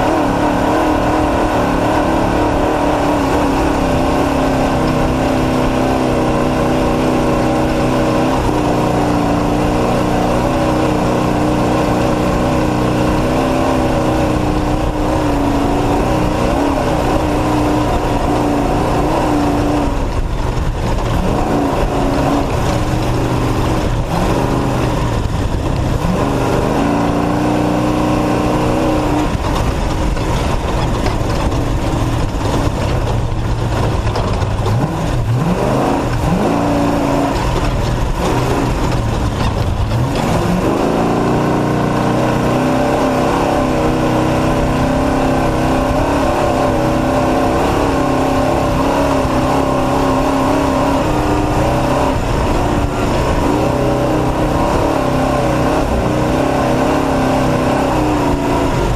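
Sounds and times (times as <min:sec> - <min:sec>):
rush of noise: 0:00.0 - 0:58.9
truck engine at high revs: 0:00.0 - 0:58.9.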